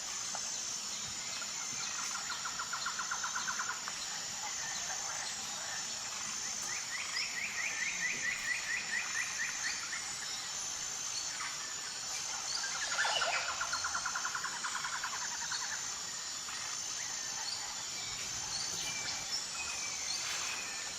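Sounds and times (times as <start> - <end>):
high-pitched insect chorus: 0.0 - 20.9.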